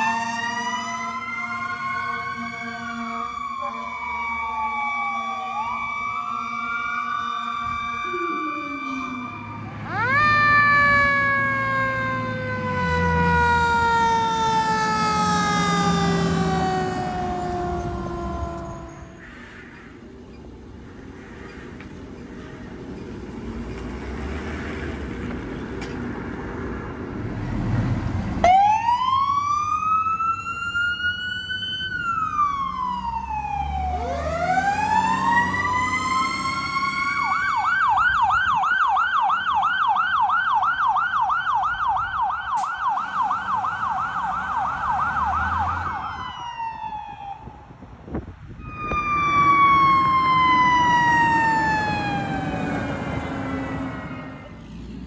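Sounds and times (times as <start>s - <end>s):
siren yelping: 0.0s - 19.2s, 28.4s - 47.7s, 48.6s - 54.5s
siren wailing: 0.0s - 19.3s, 28.4s - 47.8s, 48.6s - 54.6s
vehicle engine: 0.0s - 46.3s, 48.1s - 55.0s.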